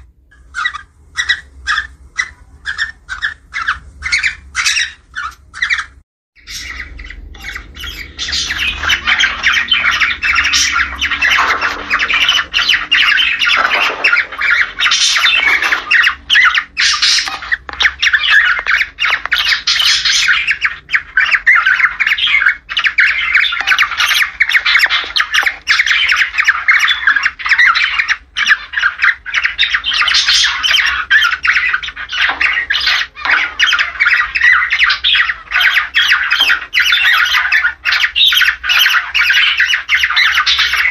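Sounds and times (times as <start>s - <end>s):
cockatiels chattering and squawking: 0.0s - 40.9s.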